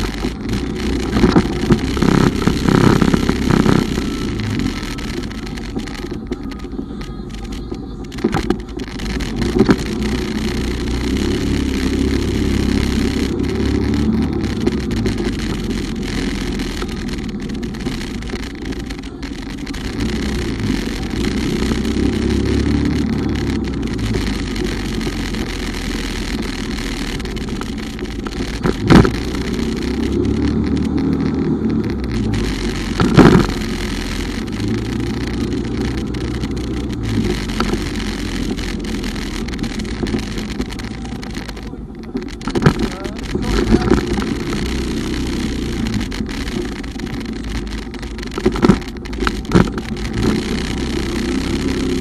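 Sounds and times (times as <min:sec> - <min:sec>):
motorcycle engine running: 0:00.0 - 0:52.0
road and wind noise: 0:00.0 - 0:52.0.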